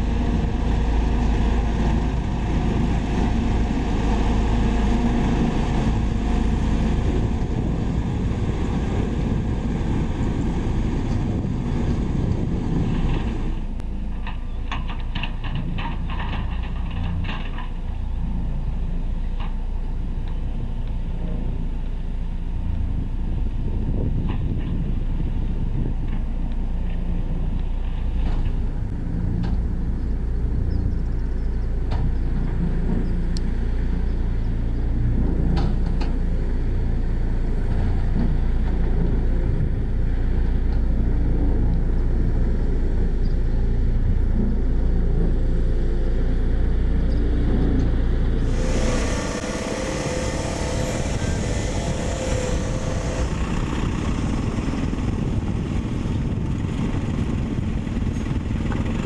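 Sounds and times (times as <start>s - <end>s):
diesel machinery droning: 0.0s - 59.0s.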